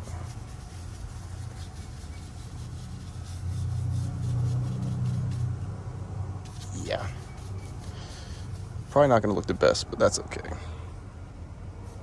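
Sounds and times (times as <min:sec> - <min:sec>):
brush scrubbing engine surfaces: 0:00.0 - 0:05.7, 0:06.4 - 0:10.5, 0:11.8 - 0:12.0
steady low hum: 0:00.0 - 0:12.0.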